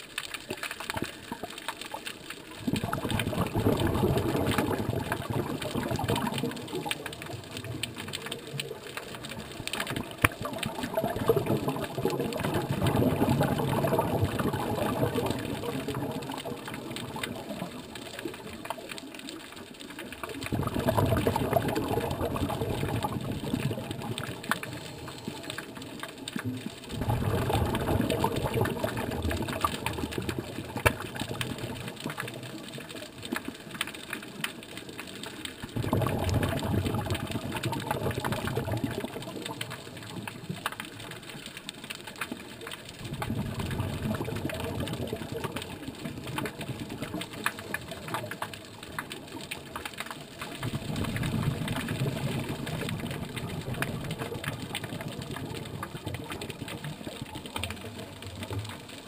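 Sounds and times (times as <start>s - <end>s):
faint underwater crackling: 0.0s - 59.0s
bubbling rush of exhaled air: 2.6s - 18.8s, 20.2s - 32.7s, 35.7s - 40.6s, 42.9s - 49.7s, 50.6s - 58.6s.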